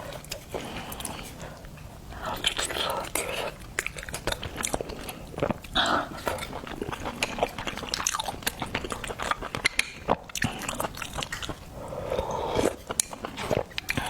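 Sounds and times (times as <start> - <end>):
wet chewing and smacking: 0.1 - 14.0.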